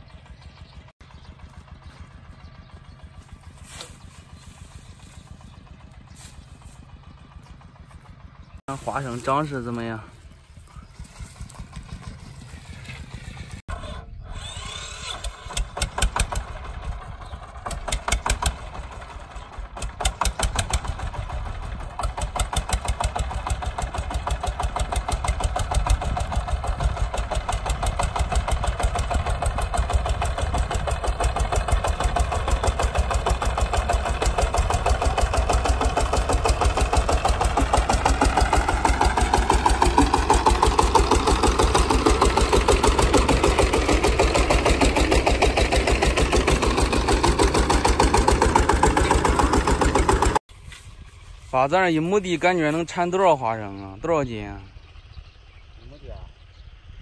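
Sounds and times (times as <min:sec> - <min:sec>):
engine chugging: 0:00.0 - 0:57.0.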